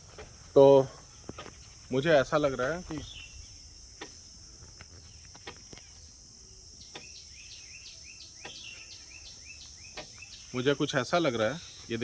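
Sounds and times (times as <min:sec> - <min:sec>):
crickets chirring: 0:00.0 - 0:12.0
bird chirping: 0:00.6 - 0:12.0.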